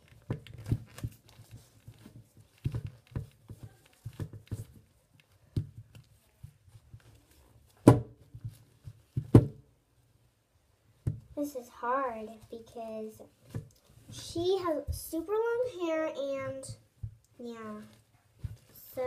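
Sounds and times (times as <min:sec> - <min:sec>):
hair handling rustles: 0:00.0 - 0:09.4, 0:11.1 - 0:19.0.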